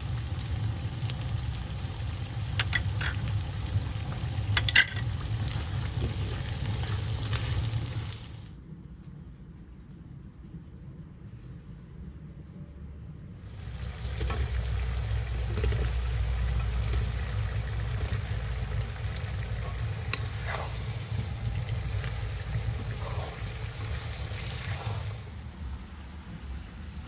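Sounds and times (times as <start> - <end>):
vegetables sizzling in a pot: 0.0 - 8.5, 13.4 - 27.0.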